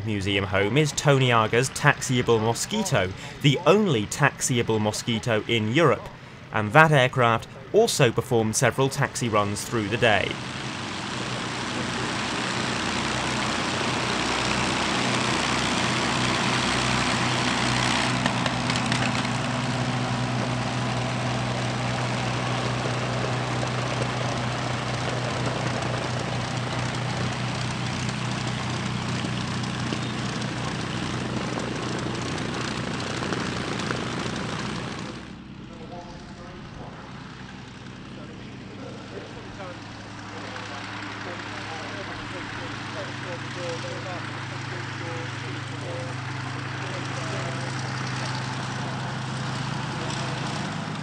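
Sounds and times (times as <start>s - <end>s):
propeller aircraft engines running: 0.0s - 51.0s.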